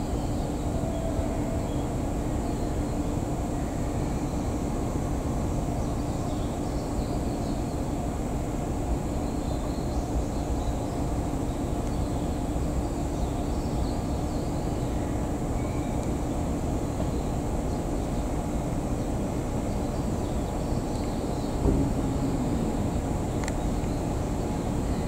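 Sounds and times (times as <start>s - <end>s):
electric train rumbling: 0.0s - 25.0s
steady low hum: 0.0s - 25.0s.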